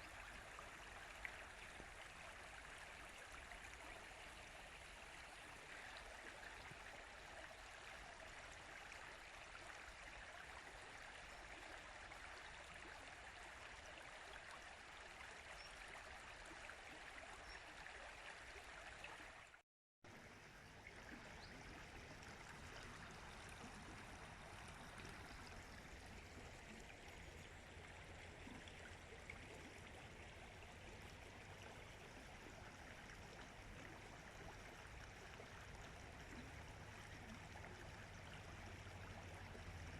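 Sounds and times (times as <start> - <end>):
stream flowing water: 0.0 - 39.9.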